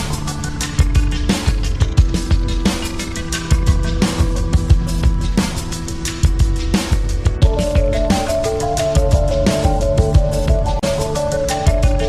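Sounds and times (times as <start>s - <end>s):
electronic beat music: 0.0s - 12.0s.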